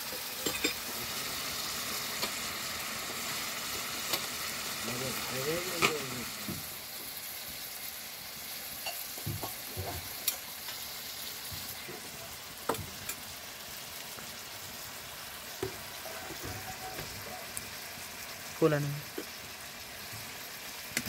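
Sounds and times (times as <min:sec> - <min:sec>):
curry sizzling in a wok: 0:00.0 - 0:21.0.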